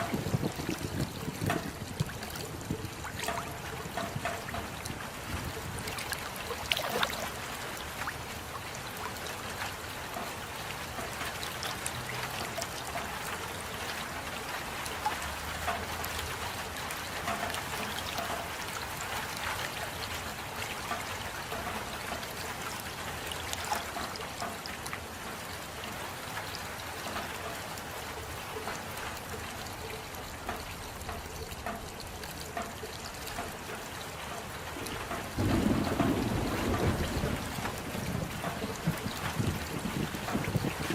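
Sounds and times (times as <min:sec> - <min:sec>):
steady rain: 0:00.0 - 0:40.9
water trickling and dripping: 0:00.0 - 0:40.9.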